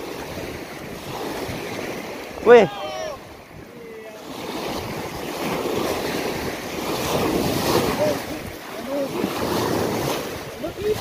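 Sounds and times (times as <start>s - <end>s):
small waves washing on sand: 0.0s - 11.0s
wind buffeting microphone: 0.0s - 11.0s.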